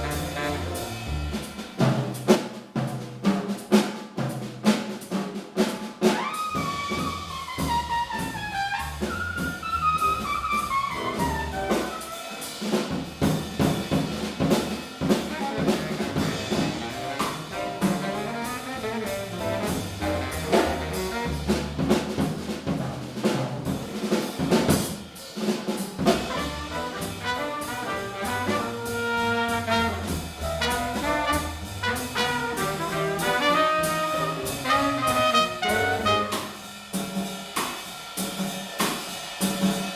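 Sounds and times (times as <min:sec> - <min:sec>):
jazz horn line: 0:00.0 - 0:02.4, 0:06.0 - 0:25.0, 0:26.0 - 0:37.3
piano: 0:00.0 - 0:03.0, 0:06.0 - 0:25.0, 0:26.0 - 0:37.0
bass: 0:00.0 - 0:03.6, 0:06.3 - 0:39.9
drum kit: 0:00.0 - 0:39.9.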